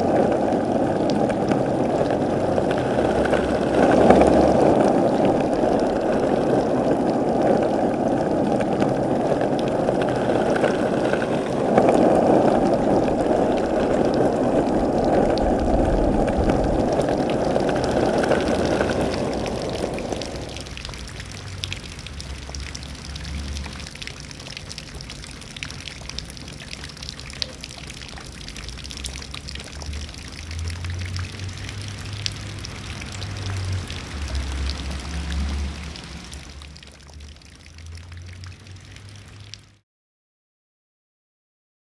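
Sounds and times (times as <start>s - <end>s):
running water rushing: 0.0s - 39.8s.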